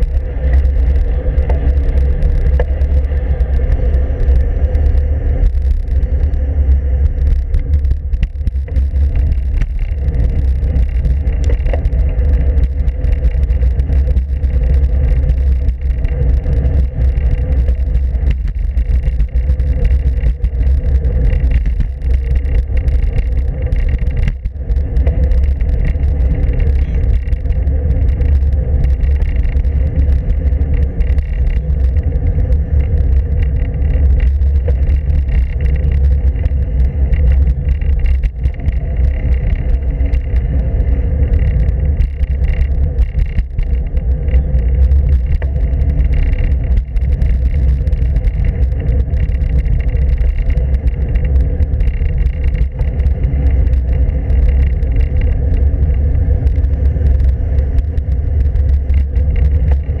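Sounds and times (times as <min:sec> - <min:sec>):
tyre noise on asphalt: 0:00.0 - 1:00.0
wind buffeting roar: 0:00.0 - 1:00.0.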